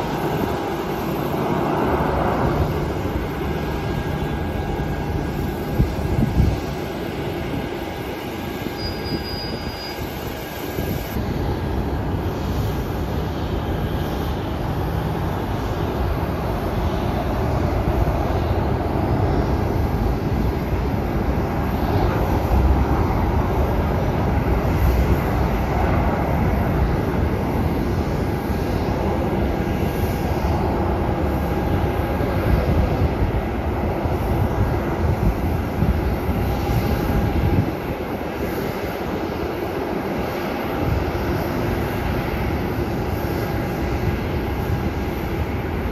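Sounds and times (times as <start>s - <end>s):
jet engines taxiing: 0.0s - 45.9s.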